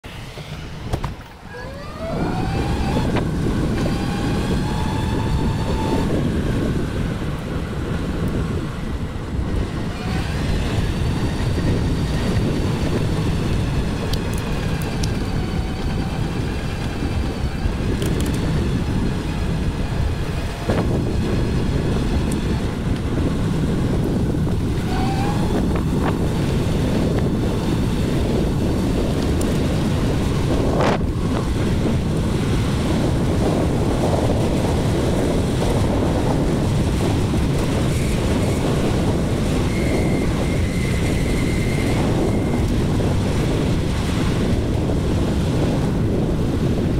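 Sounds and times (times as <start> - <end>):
road rumble: 0.0 - 46.9
wind buffeting microphone: 0.0 - 46.9.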